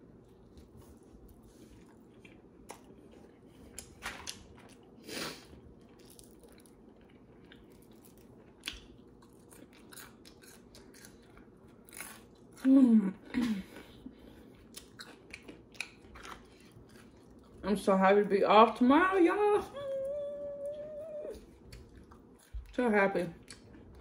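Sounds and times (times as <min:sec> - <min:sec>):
person chewing food: 0:00.0 - 0:17.6, 0:20.6 - 0:22.7, 0:23.4 - 0:24.0.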